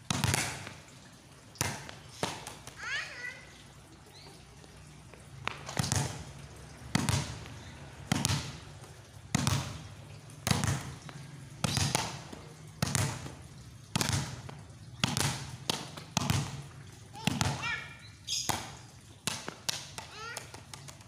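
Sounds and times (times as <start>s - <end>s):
volleyball smacking on concrete: 0.0s - 3.0s, 5.2s - 21.0s.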